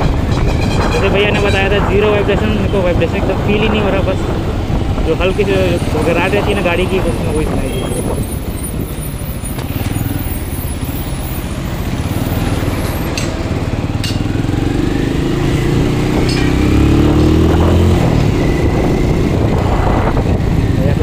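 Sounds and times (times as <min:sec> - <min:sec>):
motorcycle engine accelerating: 0:03.2 - 0:21.0.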